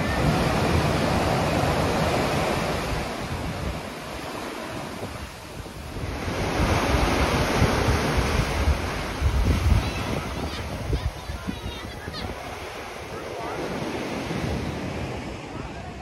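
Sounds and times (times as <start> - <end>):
surf breaking around pier pilings: 0.0 - 16.0
wind buffeting microphone: 0.0 - 16.0.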